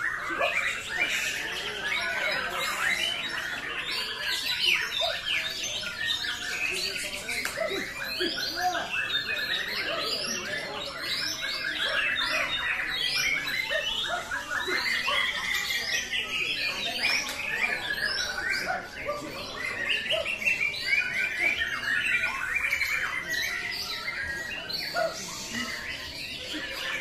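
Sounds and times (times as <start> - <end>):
birds singing whistled phrases: 0.0 - 27.0.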